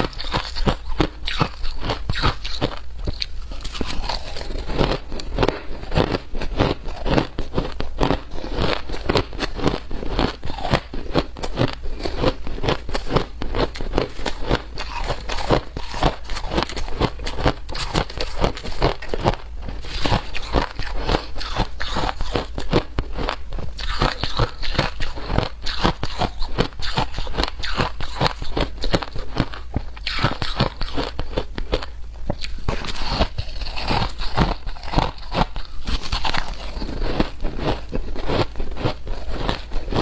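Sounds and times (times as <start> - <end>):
ice crunching being chewed: 0.0 - 40.0.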